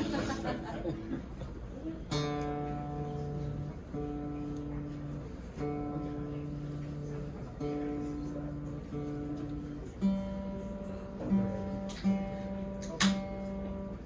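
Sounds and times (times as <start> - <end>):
guitar chord strummed: 2.1 - 14.0.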